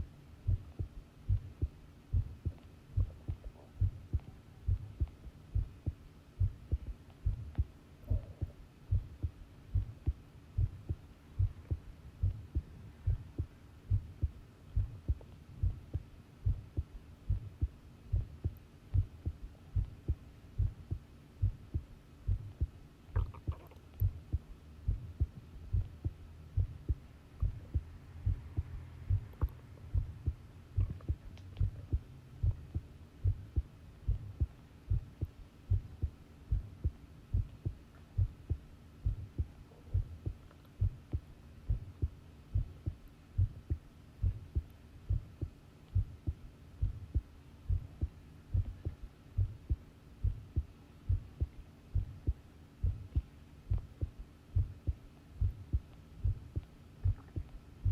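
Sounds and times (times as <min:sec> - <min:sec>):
human heartbeat: 0:00.5 - 0:57.9.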